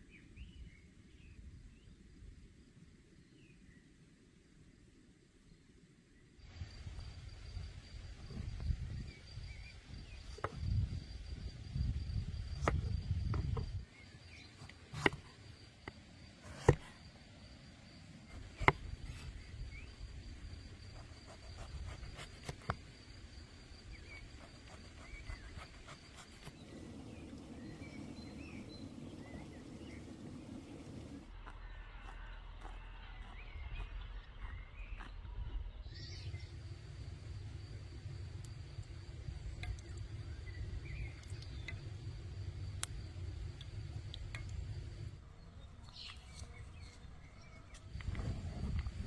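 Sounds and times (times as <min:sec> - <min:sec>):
faint chirps: 0:06.4 - 0:49.0.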